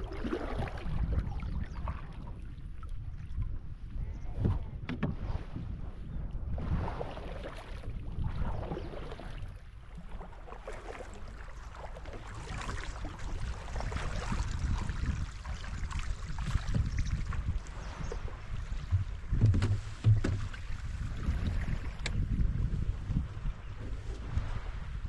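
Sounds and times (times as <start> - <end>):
water lapping against hull: 0.0 - 25.0
wind rumbling on microphone: 0.0 - 25.0.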